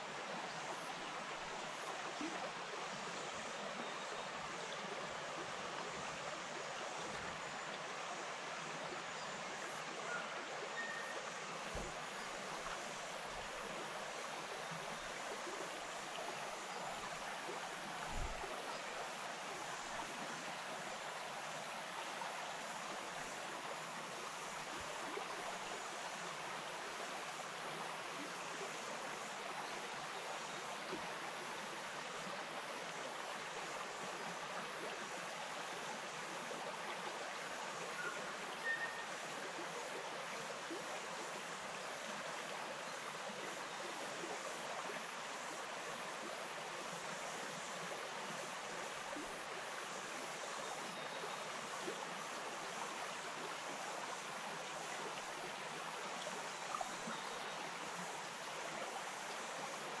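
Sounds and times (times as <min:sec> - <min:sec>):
stream flowing over stones: 0:00.0 - 1:00.0.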